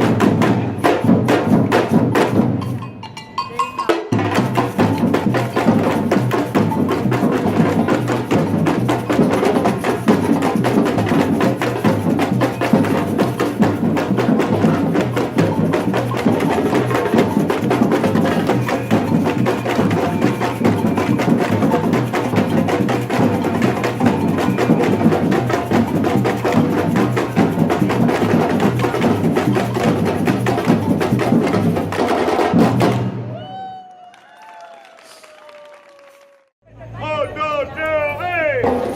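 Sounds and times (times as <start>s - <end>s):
low drum beats: 0.0s - 33.2s
samba percussion ensemble: 0.0s - 33.4s.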